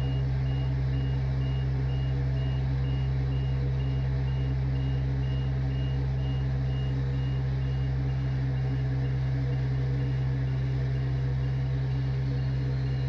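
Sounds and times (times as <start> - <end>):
engine humming: 0.0 - 13.0
reversing alarm beeping: 0.0 - 13.0.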